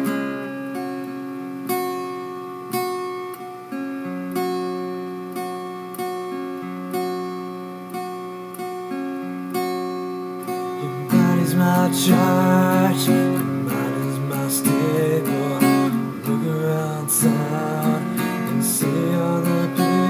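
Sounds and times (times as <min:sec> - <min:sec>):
acoustic guitar chords ringing: 0:00.0 - 0:20.0.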